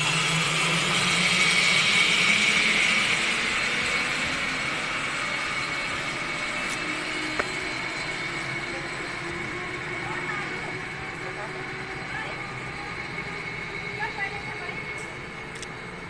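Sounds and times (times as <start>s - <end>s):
zipline pulleys whirring: 0.0s - 16.0s.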